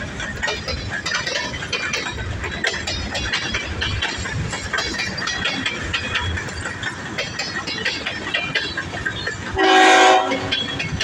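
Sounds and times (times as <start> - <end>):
freight train clicking and clanking: 0.0 - 11.0.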